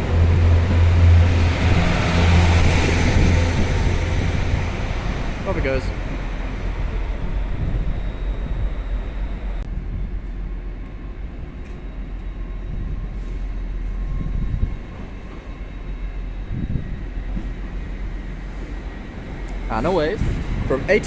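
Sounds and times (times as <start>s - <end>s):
train engine and wheels rumbling: 0.0s - 21.0s.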